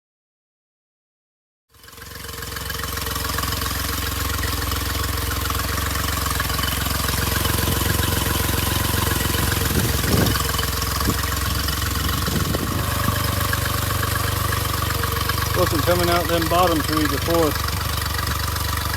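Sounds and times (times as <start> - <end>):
outboard motor idling: 1.7 - 18.9.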